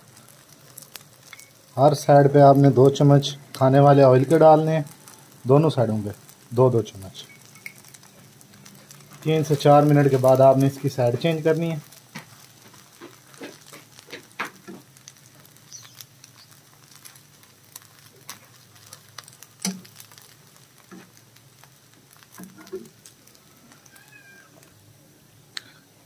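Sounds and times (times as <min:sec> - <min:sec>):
oil sizzling and popping: 0:00.0 - 0:26.0.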